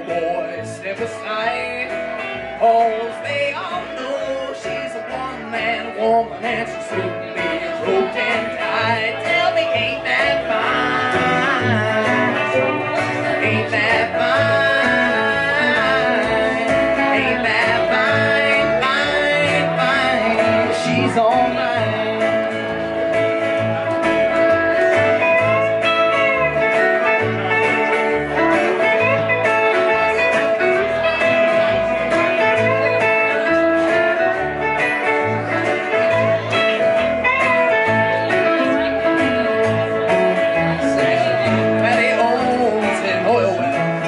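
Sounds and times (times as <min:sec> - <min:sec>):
acoustic guitar: 0:00.0 - 0:44.0
electric guitar with bent notes: 0:00.0 - 0:44.0
plucked upright bass: 0:00.0 - 0:44.0.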